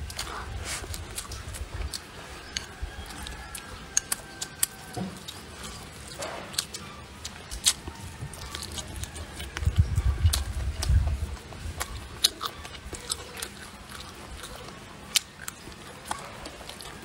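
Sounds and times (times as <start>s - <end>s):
chewing and lip smacks: 0.0s - 17.0s.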